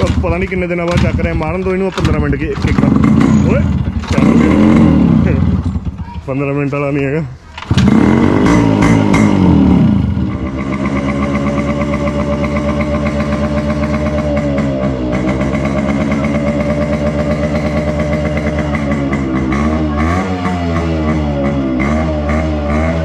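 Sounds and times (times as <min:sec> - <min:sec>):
two-stroke engine idling and revving: 0:00.0 - 0:23.0.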